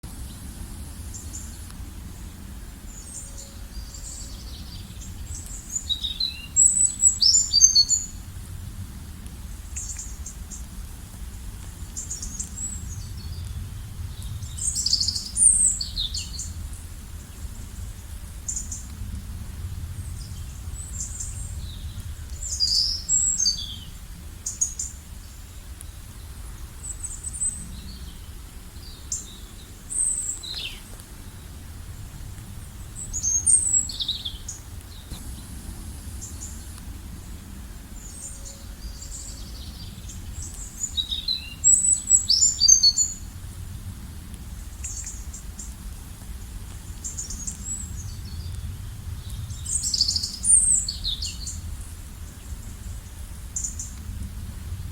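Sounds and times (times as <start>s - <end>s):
low background rumble: 0.0s - 54.9s.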